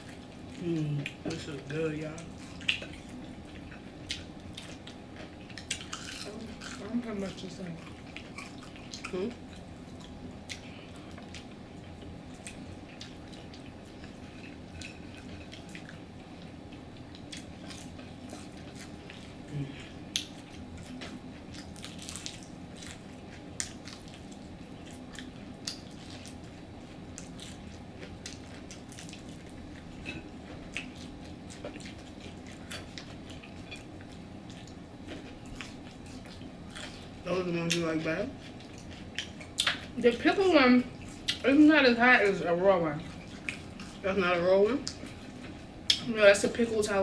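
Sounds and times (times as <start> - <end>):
chewing crunchy food: 0.0 - 46.7.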